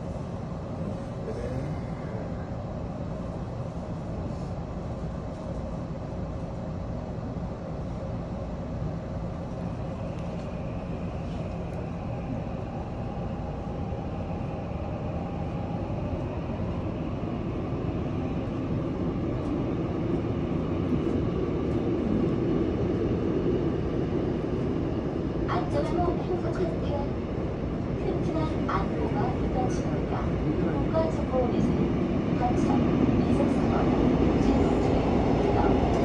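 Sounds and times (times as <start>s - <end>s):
subway train wheels rumbling: 0.0s - 36.0s.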